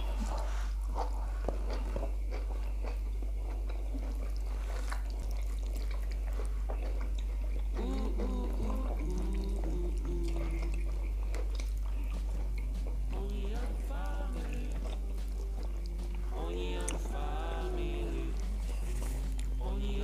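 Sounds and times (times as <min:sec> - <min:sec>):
closed-mouth humming: 0:00.0 - 0:20.0
steady low hum: 0:00.0 - 0:20.0
wet chewing and lip smacks: 0:00.0 - 0:20.0.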